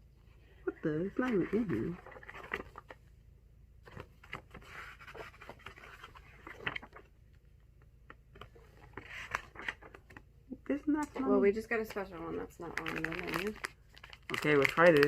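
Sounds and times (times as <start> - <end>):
paper and packaging rustling: 0.6 - 3.1, 3.8 - 10.3, 11.0 - 15.0.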